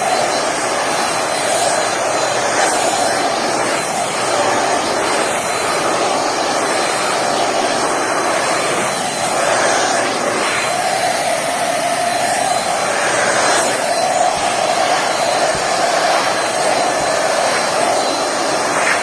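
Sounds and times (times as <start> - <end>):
handheld vacuum running: 0.0 - 19.0.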